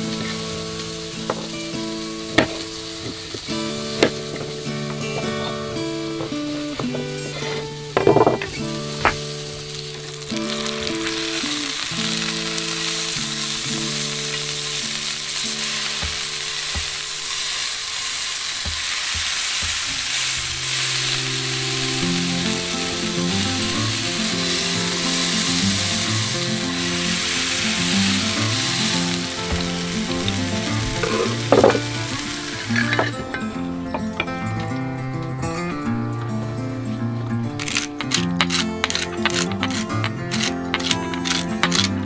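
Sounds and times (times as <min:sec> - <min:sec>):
soft background music: 0:00.0 - 0:42.0
steak sizzling in skillet: 0:00.0 - 0:42.0.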